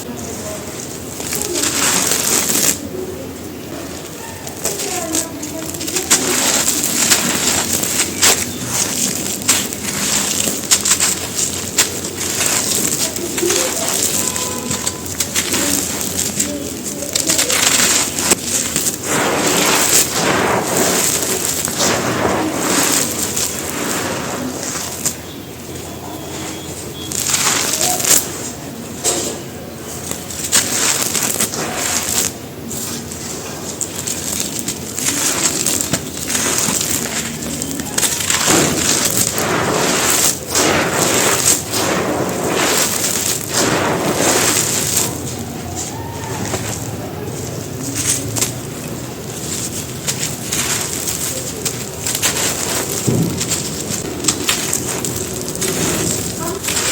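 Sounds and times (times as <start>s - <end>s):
cement chunks crumbling and crunching: 0.0s - 56.9s
sharp crack: 0.9s - 56.9s.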